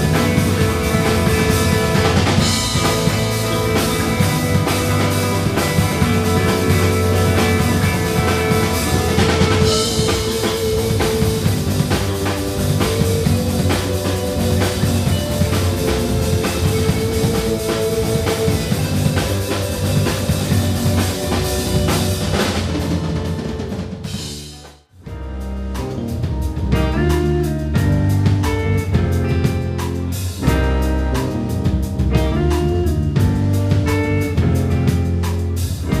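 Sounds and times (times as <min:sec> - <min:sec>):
drum kit with snare rimshots: 0:00.0 - 0:36.0
live band playing: 0:00.0 - 0:36.0.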